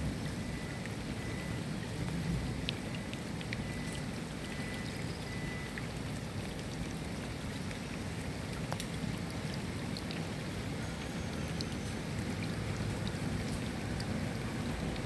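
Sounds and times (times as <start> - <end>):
raindrops ticking sharply: 0.0 - 15.0
steady rain: 0.0 - 15.0.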